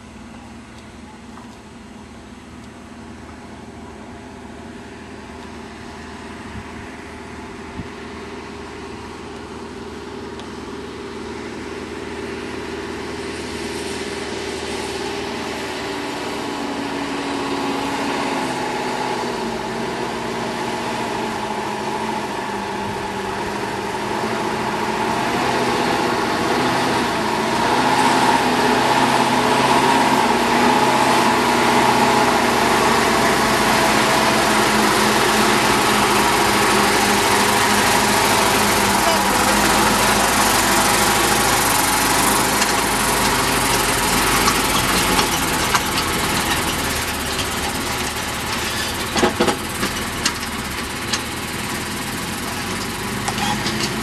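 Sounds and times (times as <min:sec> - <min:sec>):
diesel truck engine approaching: 0:00.0 - 0:54.0.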